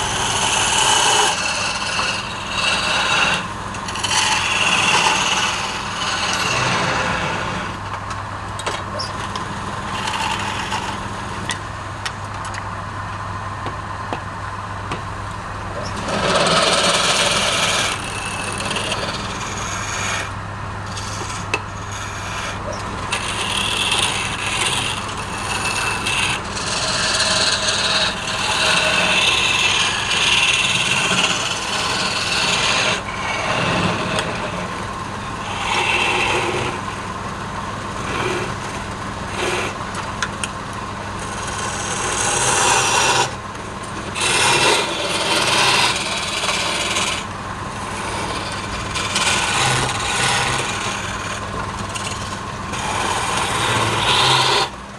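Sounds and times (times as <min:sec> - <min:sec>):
tool cutting spinning wood: 0:00.0 - 0:07.9, 0:08.9 - 0:11.6, 0:15.8 - 0:54.9
wood lathe hum: 0:00.0 - 0:08.0, 0:08.9 - 0:11.6, 0:15.7 - 0:54.9.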